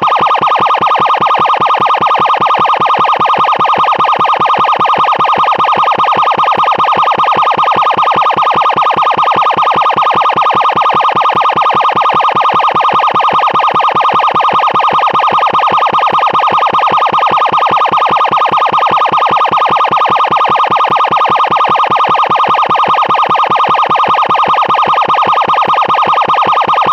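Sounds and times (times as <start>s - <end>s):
pulsing emergency siren: 0.0s - 26.9s.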